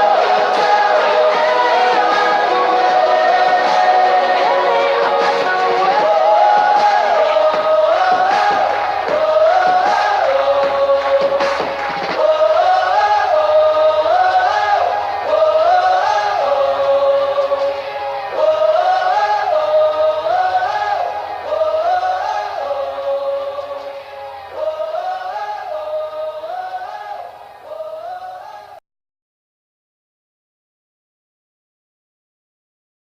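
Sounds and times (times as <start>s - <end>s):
sung vocal melody: 0.0s - 28.8s.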